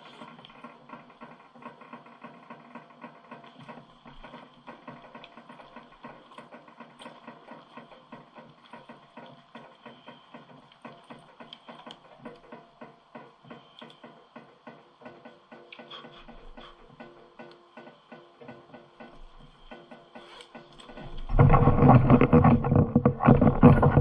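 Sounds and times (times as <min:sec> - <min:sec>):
quiet music with steady beat: 0:00.0 - 0:21.3.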